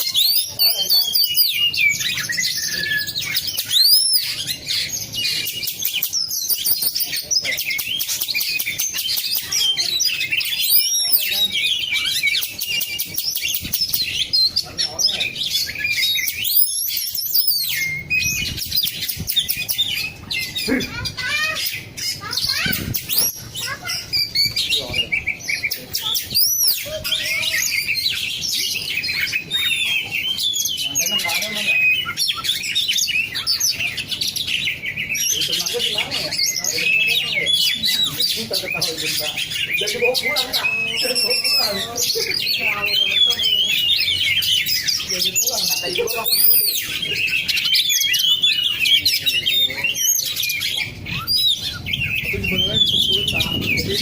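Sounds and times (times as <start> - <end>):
bird singing whistles and chirps: 0.0 - 54.0.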